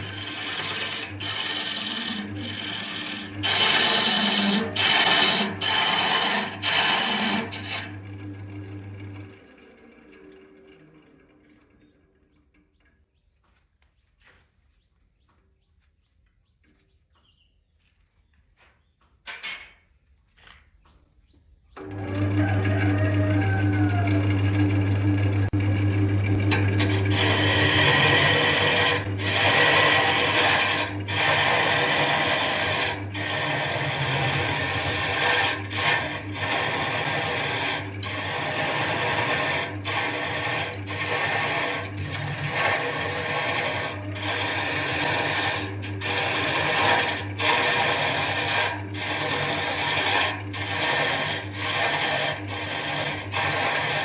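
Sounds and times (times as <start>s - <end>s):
tool scraping spinning wood: 0.0s - 11.9s, 21.8s - 54.0s
wood lathe motor humming: 0.0s - 11.9s, 21.8s - 54.0s.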